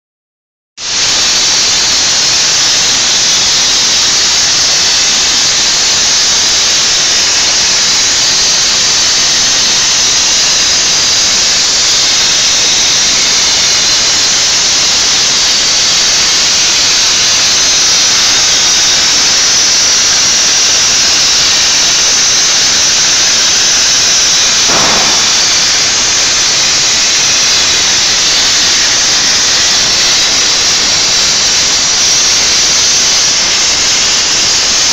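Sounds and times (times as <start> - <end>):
cutting torch hissing: 0.8 - 34.9.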